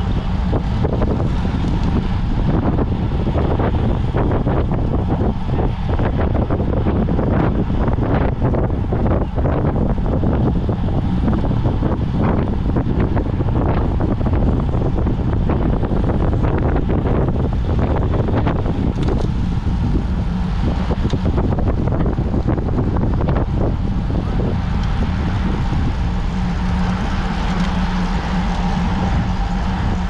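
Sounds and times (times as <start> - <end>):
low rumble of bike ride: 0.0 - 30.0
wind rushing over microphone: 0.0 - 30.0.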